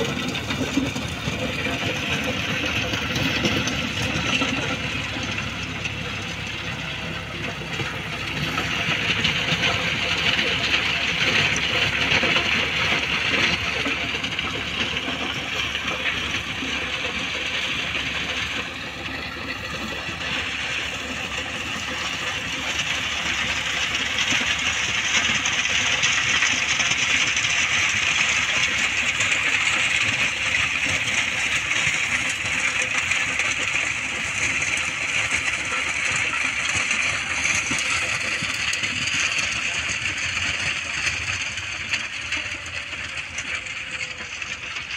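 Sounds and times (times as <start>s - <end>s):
diesel tractor running: 0.0s - 44.9s.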